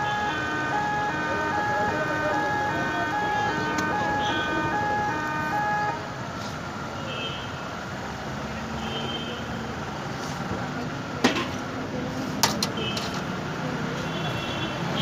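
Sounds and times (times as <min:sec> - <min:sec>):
traffic: 0:00.0 - 0:15.0
voices: 0:00.0 - 0:15.0.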